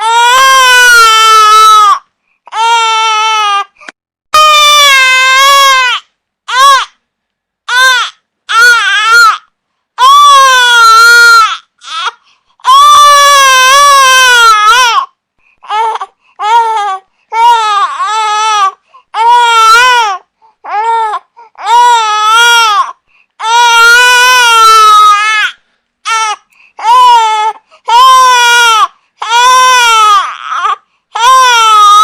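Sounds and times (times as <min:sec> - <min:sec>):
infant crying: 0:00.0 - 0:03.8, 0:04.4 - 0:07.0, 0:07.7 - 0:32.0.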